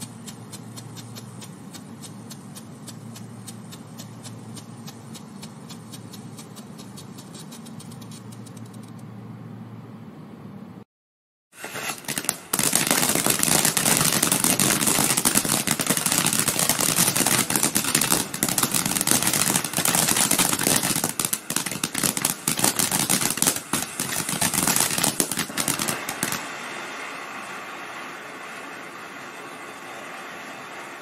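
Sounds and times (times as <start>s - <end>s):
firework crackling and hissing: 0.0s - 8.7s, 11.5s - 31.0s.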